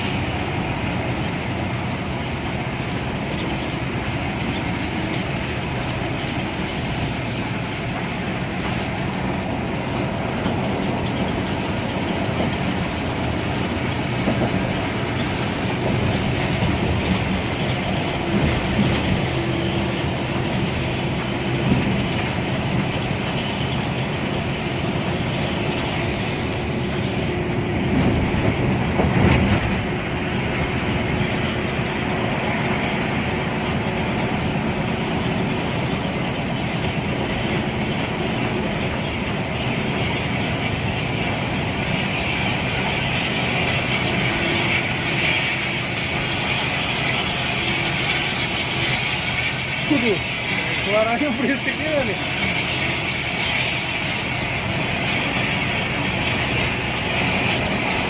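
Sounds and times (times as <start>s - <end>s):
bus engine and road drone: 0.0s - 58.0s.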